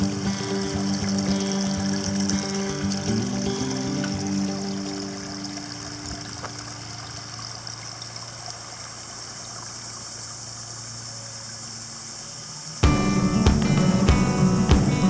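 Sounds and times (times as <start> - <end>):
water trickling in a creek: 0.0 - 12.8.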